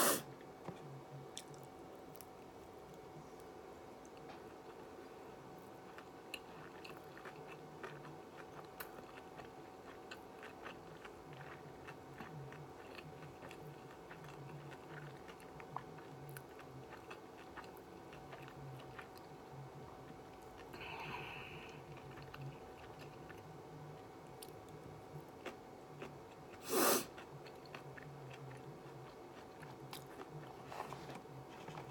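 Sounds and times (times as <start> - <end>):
faint steady hum: 0.0 - 31.9
close-up chewing: 0.6 - 31.9.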